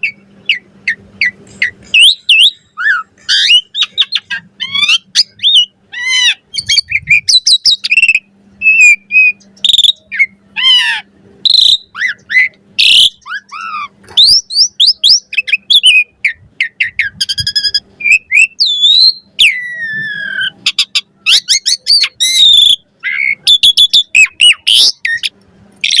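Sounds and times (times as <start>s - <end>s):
starling singing: 0.0s - 26.0s.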